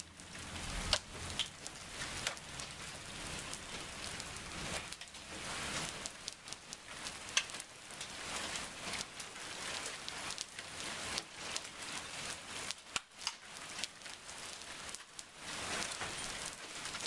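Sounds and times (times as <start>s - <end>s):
rain on pavement and lawn: 0.0s - 17.0s
raindrops tapping close by: 0.0s - 17.0s.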